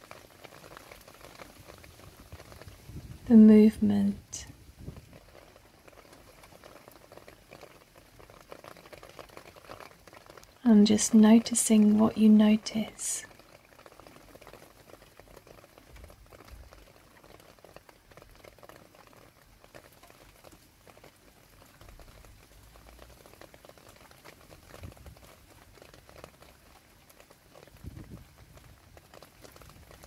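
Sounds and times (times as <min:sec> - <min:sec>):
light rain pattering into puddle: 0:00.0 - 0:30.0.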